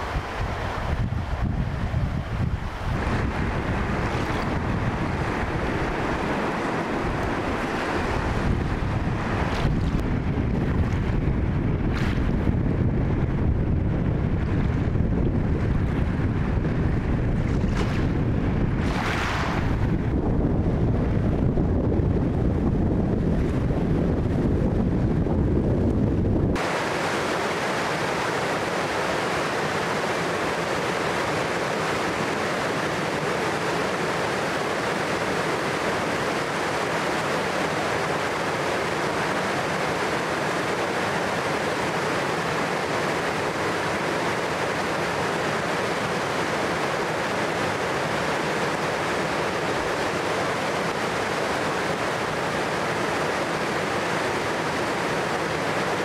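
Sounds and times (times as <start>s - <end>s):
river rushing through rapids: 0.0s - 20.1s, 26.6s - 56.0s.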